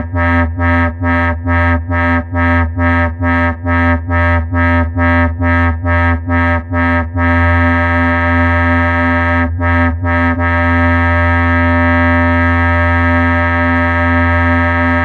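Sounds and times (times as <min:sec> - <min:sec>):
synthesizer low held note: 0:00.0 - 0:15.0.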